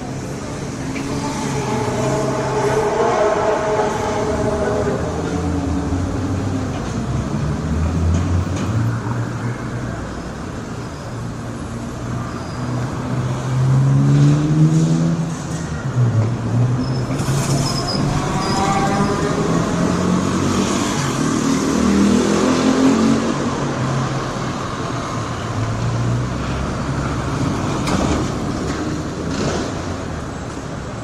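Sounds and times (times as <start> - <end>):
road noise: 0.0 - 31.0
vehicles passing: 0.0 - 31.0.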